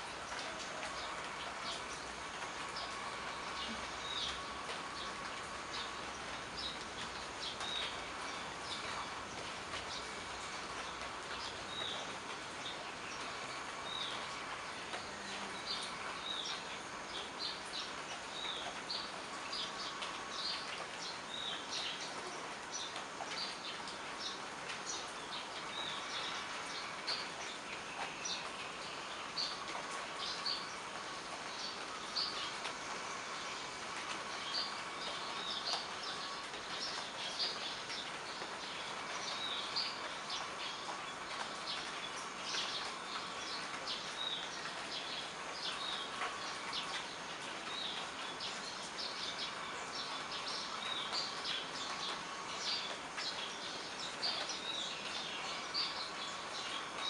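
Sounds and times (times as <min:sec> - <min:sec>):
small birds chirping: 0:00.0 - 0:57.0
steady rain falling: 0:00.0 - 0:57.0.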